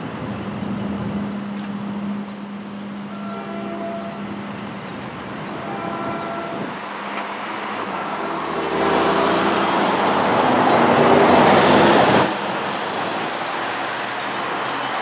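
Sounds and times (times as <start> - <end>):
train approaching with engine rumble: 0.0 - 15.0.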